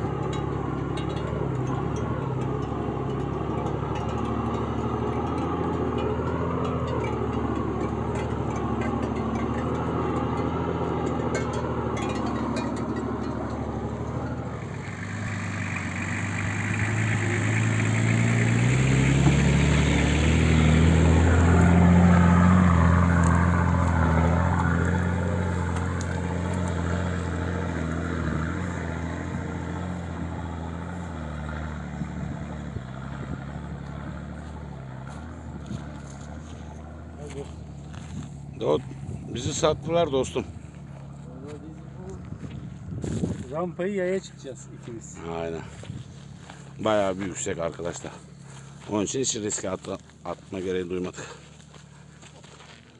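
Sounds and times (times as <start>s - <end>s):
car engine revving: 0.0s - 52.5s.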